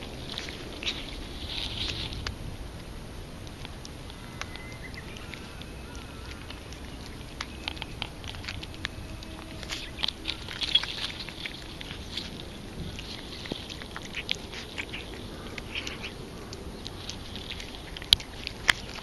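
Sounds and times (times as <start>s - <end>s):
cat chewing wet food: 0.0s - 19.0s.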